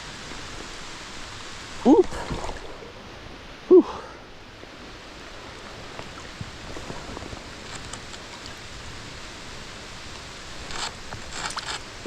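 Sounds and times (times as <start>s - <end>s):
splash or rustle: 0.0s - 3.1s, 5.4s - 12.0s
rain hissing on a creek: 0.0s - 12.0s.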